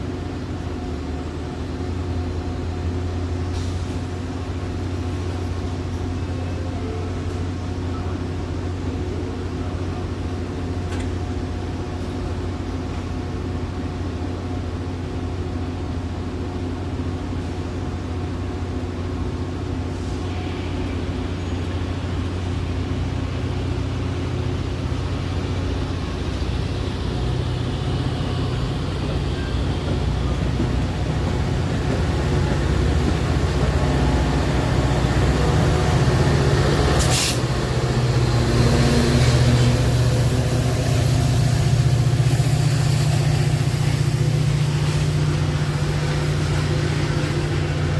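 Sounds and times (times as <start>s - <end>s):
train coach mechanical hum: 0.0s - 47.9s.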